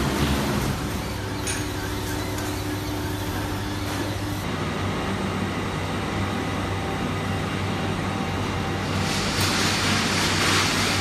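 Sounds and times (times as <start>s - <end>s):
machinery hum and hiss: 0.0s - 11.0s.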